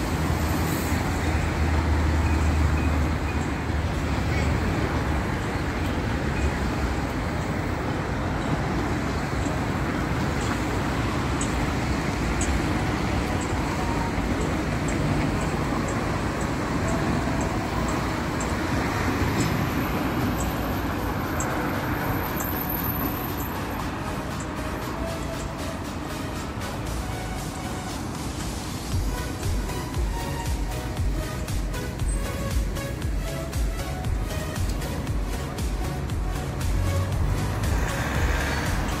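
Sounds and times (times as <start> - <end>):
cars driving past: 0.0 - 39.0.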